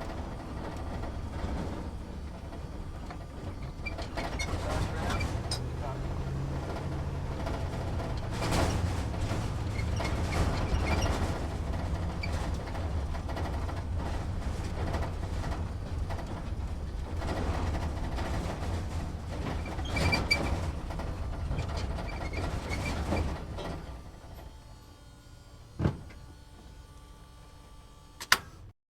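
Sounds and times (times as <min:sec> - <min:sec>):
engine and road rumble: 0:00.0 - 0:28.7
cab rattles and clicks: 0:00.1 - 0:23.9.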